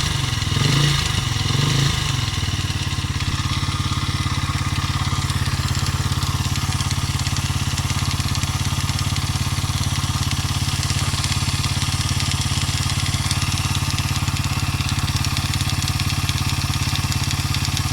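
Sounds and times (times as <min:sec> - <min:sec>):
engine knock: 0:00.0 - 0:17.9
motorcycle engine idling: 0:00.0 - 0:17.9.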